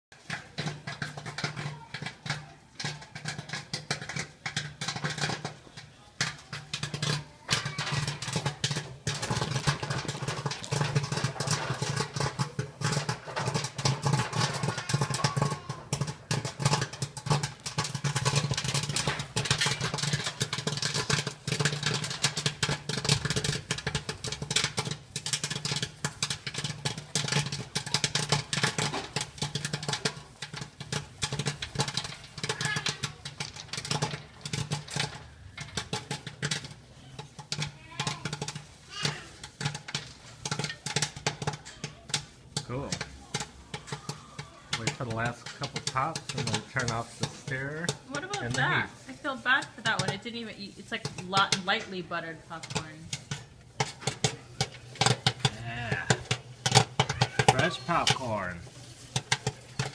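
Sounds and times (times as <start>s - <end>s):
popcorn kernels popping: 0.0s - 59.9s
stirring motor humming: 6.2s - 59.9s.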